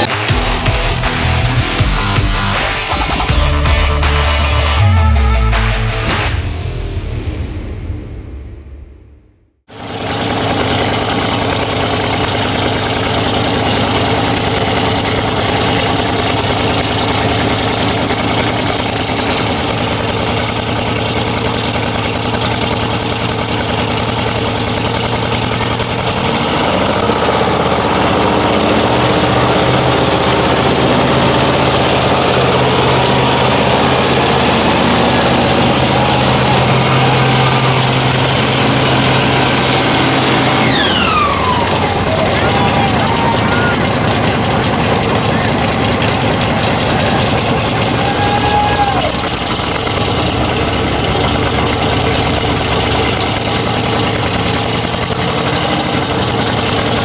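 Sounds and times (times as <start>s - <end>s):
truck engines running: 0.0s - 6.4s, 9.7s - 57.0s.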